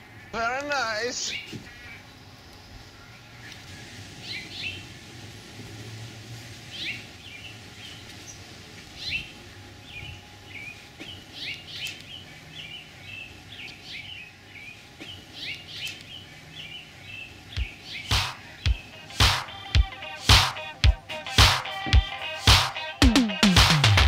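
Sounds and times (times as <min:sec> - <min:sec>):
small birds chirping: 0:00.0 - 0:05.1, 0:06.5 - 0:23.5.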